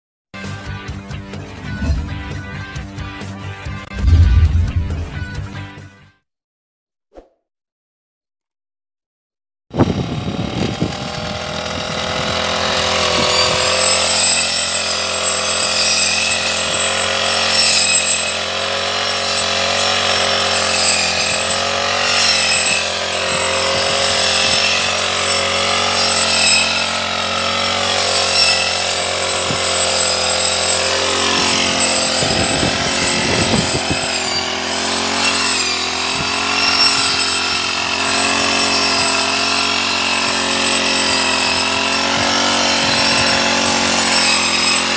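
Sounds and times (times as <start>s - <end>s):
brush cutter engine whine: 1.5s - 3.0s, 9.8s - 44.9s.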